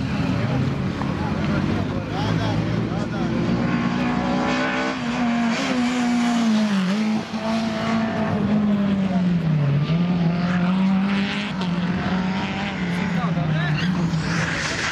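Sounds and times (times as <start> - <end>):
rally car engine at high revs: 0.0 - 14.9.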